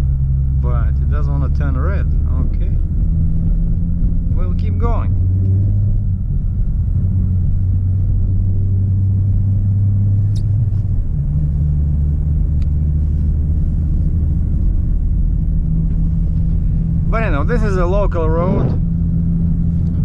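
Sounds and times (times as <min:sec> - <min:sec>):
truck diesel engine: 0:00.0 - 0:20.0.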